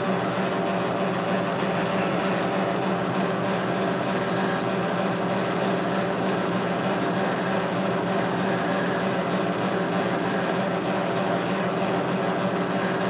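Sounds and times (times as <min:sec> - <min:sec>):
file against turning shaft: 0:00.0 - 0:13.0
metal lathe humming: 0:00.0 - 0:13.0.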